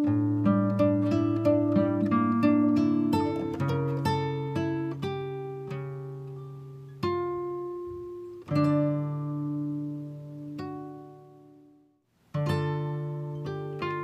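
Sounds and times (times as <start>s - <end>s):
acoustic guitar picked chords: 0.0s - 14.0s.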